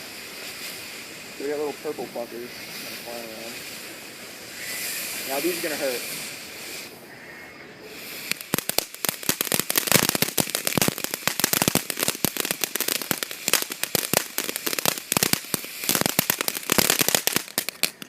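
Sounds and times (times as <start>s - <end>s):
firework crackling pops: 0.0s - 7.1s, 7.9s - 18.0s.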